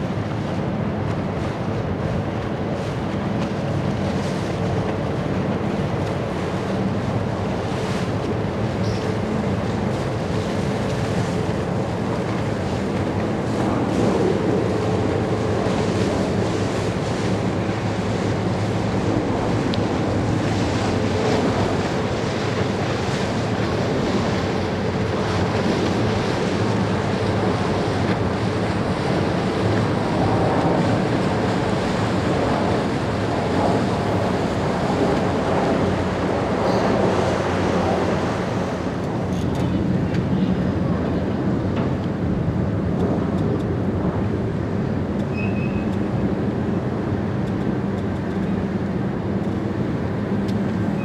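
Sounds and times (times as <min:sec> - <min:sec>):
ferry engines low rumble: 0:00.0 - 0:51.0
propeller wash churning water: 0:00.0 - 0:51.0
wind buffeting microphone: 0:00.0 - 0:51.0.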